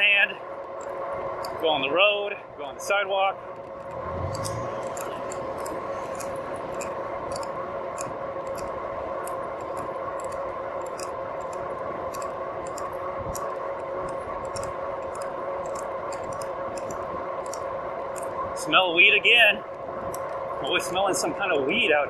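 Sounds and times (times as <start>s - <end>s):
light irregular ticks: 0.0s - 1.9s, 3.5s - 19.0s, 19.7s - 21.4s
electric bike motor whine: 0.0s - 22.0s.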